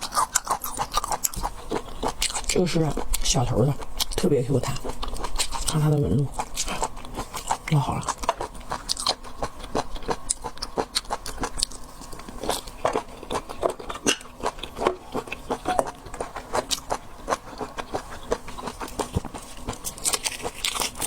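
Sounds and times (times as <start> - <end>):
chewing with wet mouth clicks: 0.0 - 21.0.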